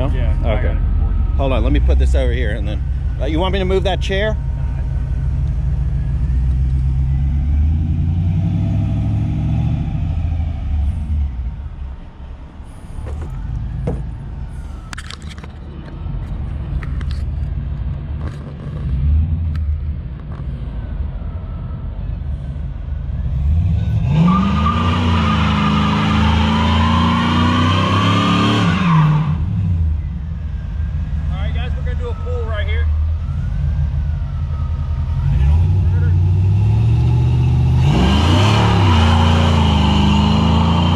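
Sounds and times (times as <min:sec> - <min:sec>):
truck engine rumbling and revving: 0:00.0 - 0:40.9.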